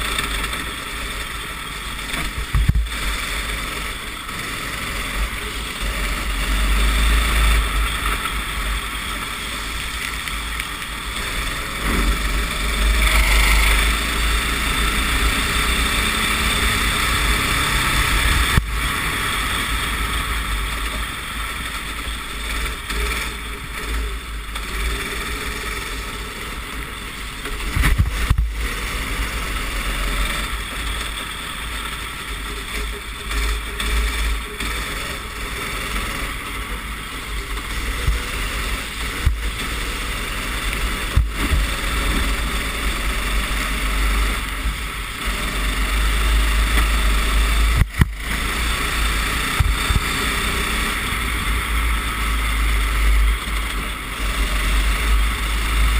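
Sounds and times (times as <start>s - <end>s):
racing kart engine revving: 0.0s - 55.9s.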